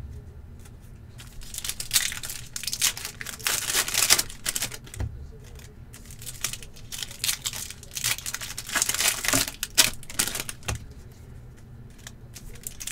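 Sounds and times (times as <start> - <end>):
cards being handled: 0.6 - 12.9
foil wrapper crinkling and tearing: 1.2 - 11.0, 11.9 - 12.9.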